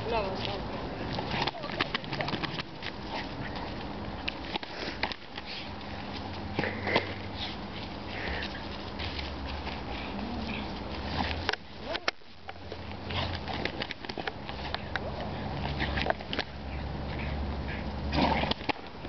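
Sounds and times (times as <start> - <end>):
paws and toy scuffing: 0.3 - 18.0
dog breathing and huffing: 0.9 - 11.5, 12.7 - 18.4.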